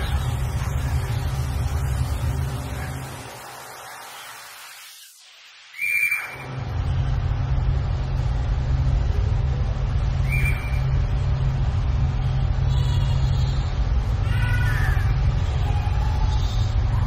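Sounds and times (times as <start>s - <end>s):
low rumbling drone: 0.0s - 4.4s, 6.3s - 17.0s.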